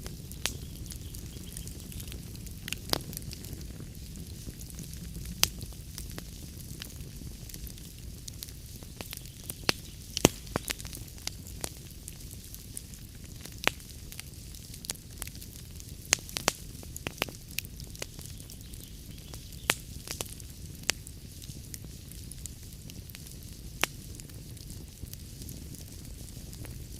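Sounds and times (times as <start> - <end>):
log fire crackling: 0.0 - 26.9.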